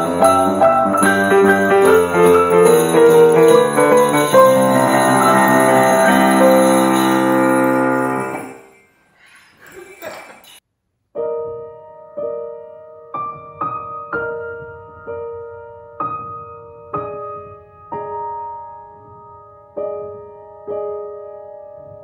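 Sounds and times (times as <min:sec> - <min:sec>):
slow piano chords: 0:00.0 - 0:08.7, 0:11.2 - 0:22.0.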